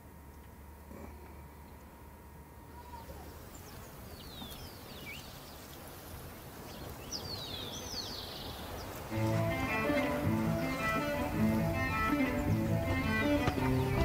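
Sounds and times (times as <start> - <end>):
outdoor background noise: 0.0 - 14.0
small birds chirping: 2.6 - 14.0.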